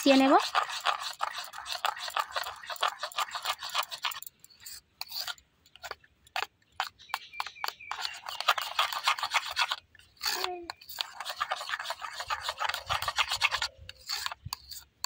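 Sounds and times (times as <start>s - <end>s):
spoon scraping and clinking bowl: 0.0s - 14.9s.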